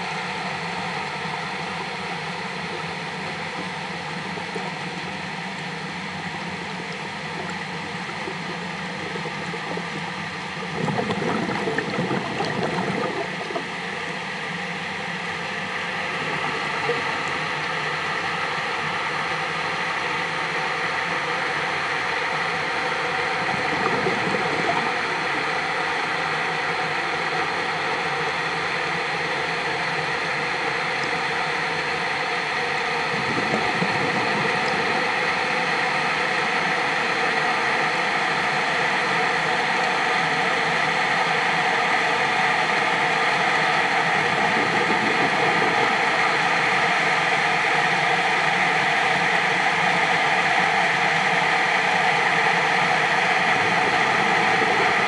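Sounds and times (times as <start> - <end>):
underwater hiss and hum: 0.0 - 55.0.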